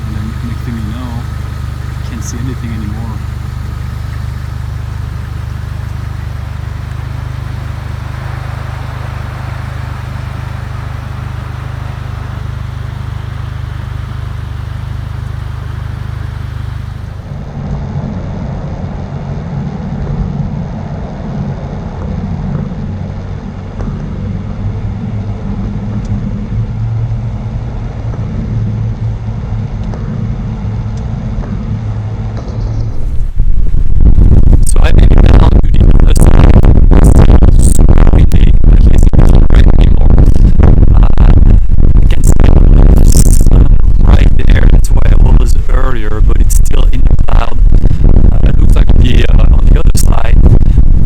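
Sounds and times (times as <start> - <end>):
engine and road drone in cabin: 0.0 - 17.7, 22.9 - 51.0.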